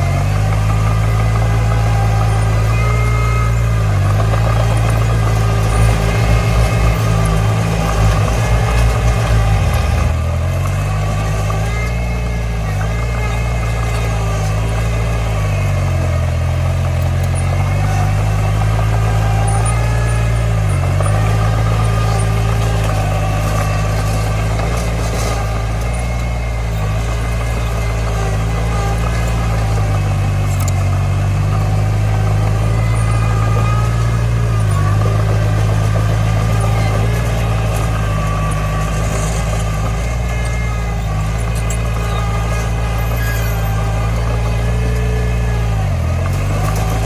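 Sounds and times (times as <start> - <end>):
bulldozer diesel engine: 0.0 - 47.0
rattling clatter: 0.0 - 47.0.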